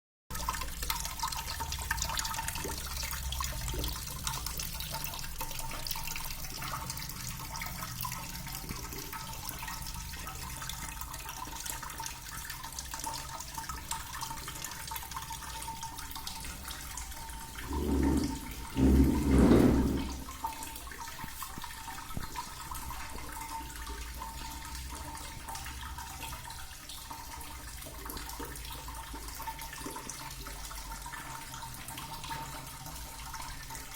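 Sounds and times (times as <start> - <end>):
water fountain splashing: 0.3 - 33.9.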